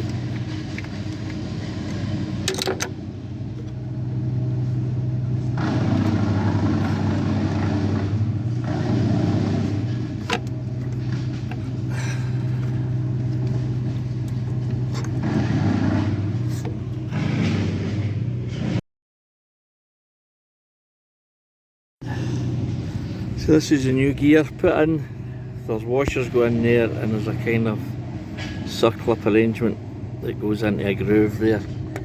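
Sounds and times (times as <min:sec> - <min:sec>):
low mechanical hum: 0:00.0 - 0:18.8, 0:22.0 - 0:32.0.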